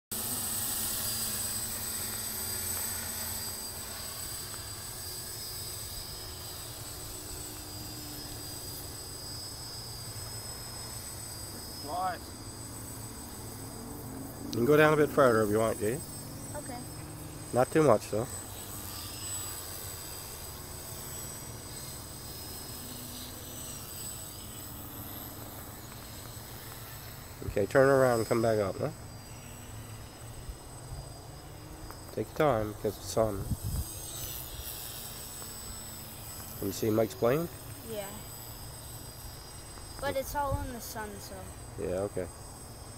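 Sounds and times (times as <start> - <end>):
drone motors whining: 0.1 - 42.9
high insect trill: 0.1 - 42.9.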